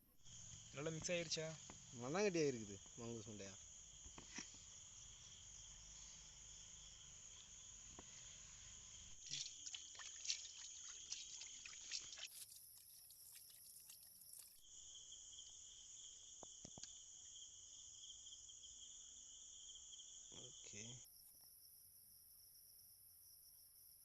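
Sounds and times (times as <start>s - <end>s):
insects chirping: 0.2s - 24.0s.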